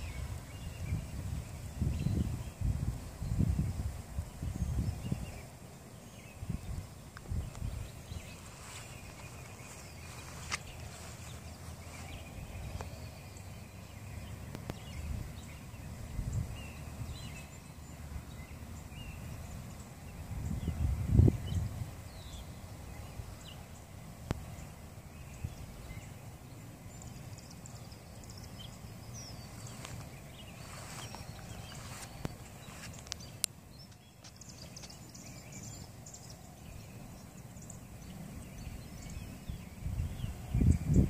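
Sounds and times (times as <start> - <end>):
bird chirps: 0.0 - 41.0.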